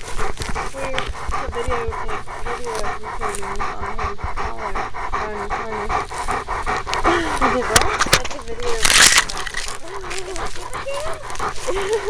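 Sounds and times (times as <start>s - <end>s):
dog panting fast: 0.0s - 12.0s.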